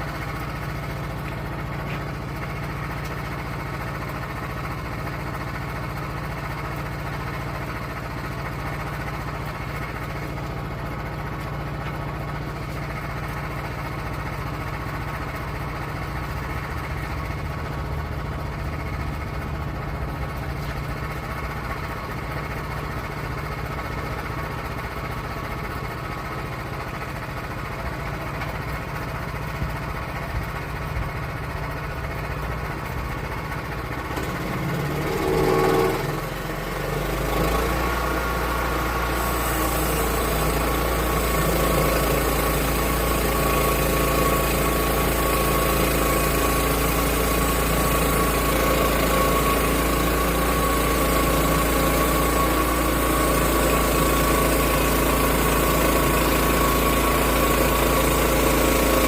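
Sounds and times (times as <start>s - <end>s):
gasoline engine running: 0.0s - 59.0s.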